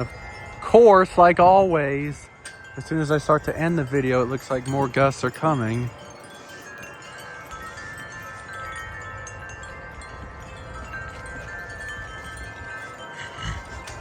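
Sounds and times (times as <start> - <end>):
low wind rumble: 0.0 - 14.0
wind chimes ringing: 0.0 - 14.0.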